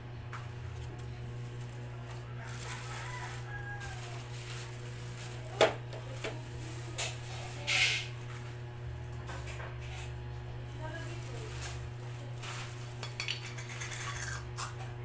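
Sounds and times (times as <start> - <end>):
steady low hum: 0.0 - 15.0
plastic wrapping crinkling: 0.4 - 9.5, 10.6 - 13.9.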